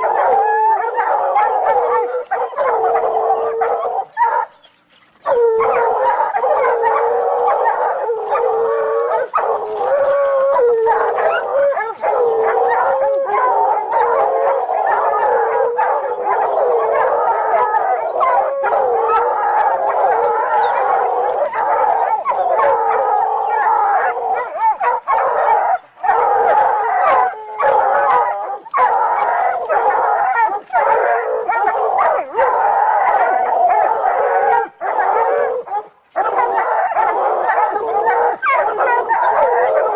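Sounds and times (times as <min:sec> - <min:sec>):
hounds baying and howling: 0:00.0 - 0:39.9.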